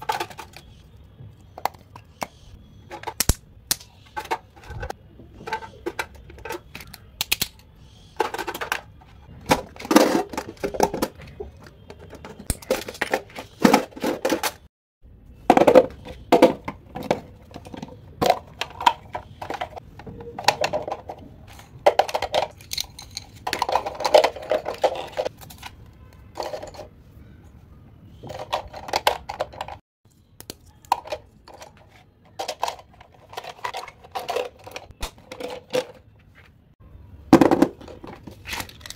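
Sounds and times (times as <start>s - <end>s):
stationery items clicking and rattling: 0.0s - 14.7s, 15.5s - 27.0s, 28.2s - 29.8s, 30.5s - 36.7s, 37.3s - 38.9s.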